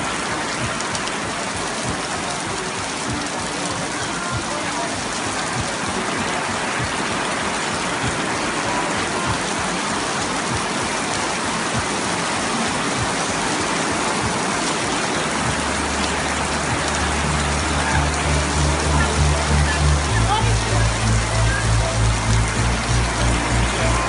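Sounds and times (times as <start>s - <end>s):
heavy rain on pool and paving: 0.0s - 24.0s.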